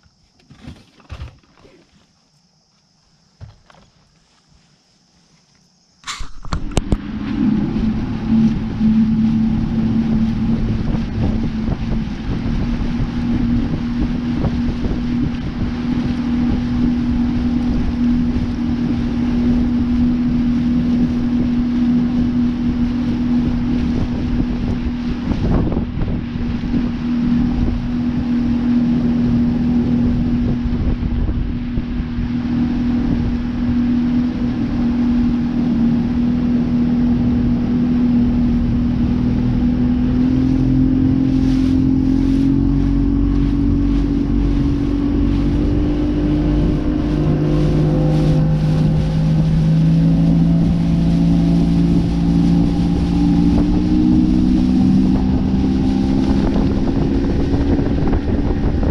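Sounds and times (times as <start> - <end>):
outboard motor running: 6.0 - 58.9
water rushing past hull: 6.0 - 58.9
wind buffeting microphone: 6.0 - 58.9.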